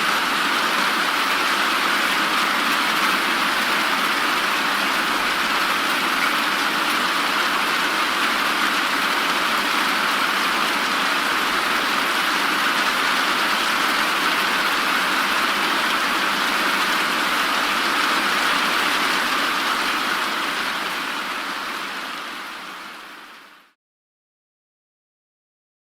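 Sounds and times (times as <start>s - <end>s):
steady rain: 0.0s - 23.8s.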